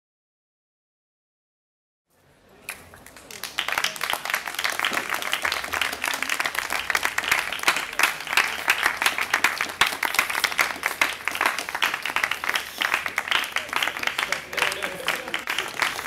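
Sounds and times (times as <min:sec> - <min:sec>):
audience applauding: 0:02.7 - 0:16.0.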